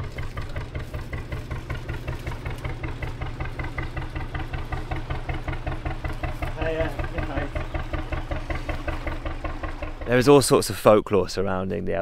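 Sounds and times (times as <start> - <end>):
diesel engine chugging: 0.0 - 11.6.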